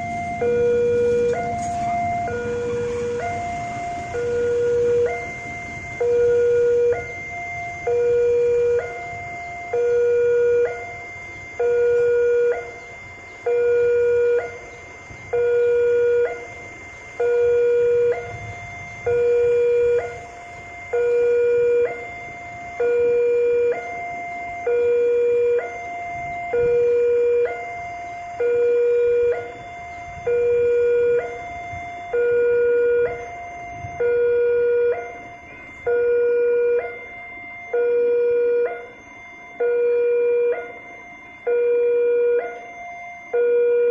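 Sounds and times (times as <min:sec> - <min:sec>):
level-crossing alarm two tones: 0:00.0 - 0:43.9.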